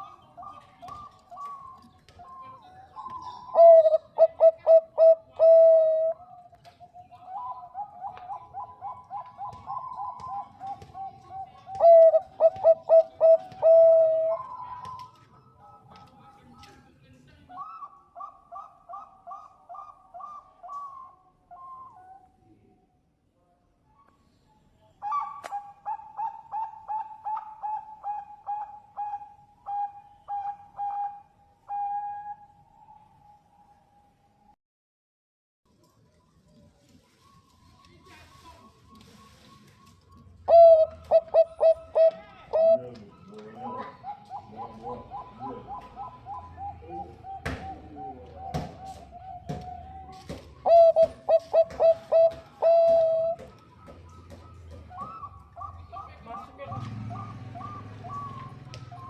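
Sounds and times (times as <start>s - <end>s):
dove cooing: 0.0s - 6.4s, 7.0s - 16.3s, 17.6s - 22.1s, 25.0s - 33.4s, 40.3s - 59.0s.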